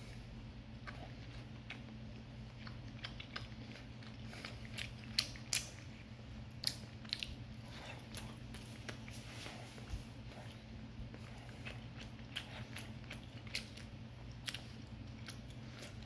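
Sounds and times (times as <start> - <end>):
low steady hum: 0.0 - 16.0
person chewing crunchy food: 0.0 - 16.0.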